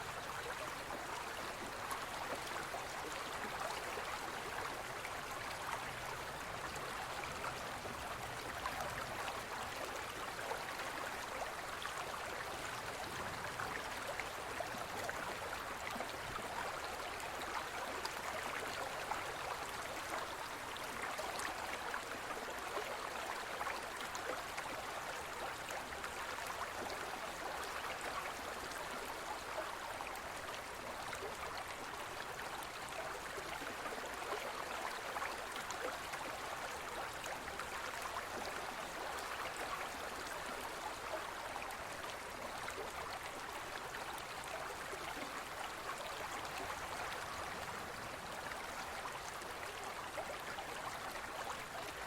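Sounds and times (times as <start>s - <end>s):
stream flowing over stones: 0.0s - 52.0s.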